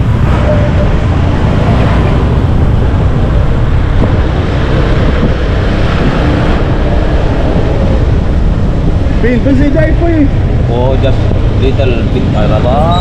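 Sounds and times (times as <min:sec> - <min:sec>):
motorcycle road noise: 0:00.0 - 0:13.0
wind rush over microphone: 0:00.0 - 0:13.0.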